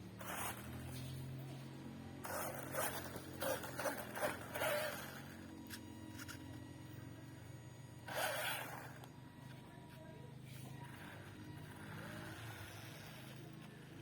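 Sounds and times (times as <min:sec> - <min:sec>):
toy car motor hum: 0:00.0 - 0:01.6, 0:02.2 - 0:14.0.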